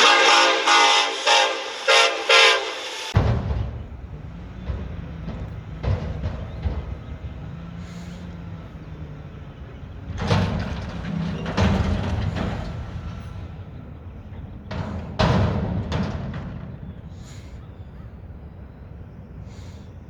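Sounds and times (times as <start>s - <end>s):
garbage truck engine running: 3.1s - 20.0s
loud metal bangs and clatter: 3.1s - 20.0s.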